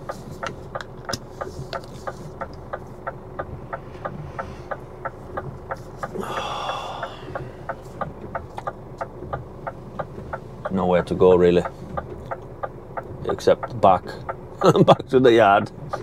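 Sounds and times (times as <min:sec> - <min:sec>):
lorry engine idling: 0:00.0 - 0:16.0
fast even ticking: 0:02.1 - 0:16.0.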